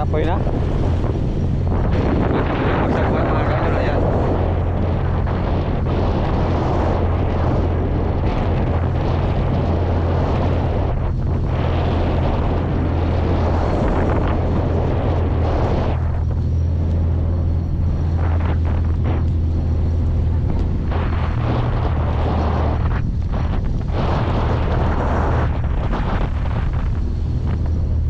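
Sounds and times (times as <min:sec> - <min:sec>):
boat engine droning: 0:00.0 - 0:28.0
water rushing past hull: 0:00.0 - 0:28.0
wind buffeting microphone: 0:00.0 - 0:28.0.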